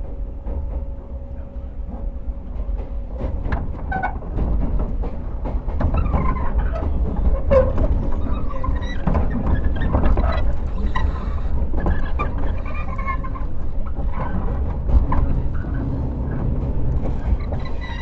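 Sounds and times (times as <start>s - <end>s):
train rumble: 0.0s - 18.0s
wheels clicking over rail joints: 0.4s - 18.0s.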